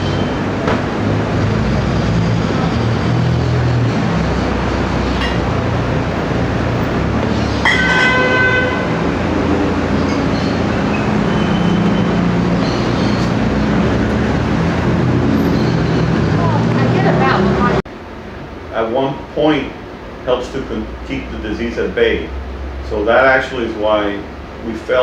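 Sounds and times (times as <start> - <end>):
traffic engines droning: 0.0 - 25.0.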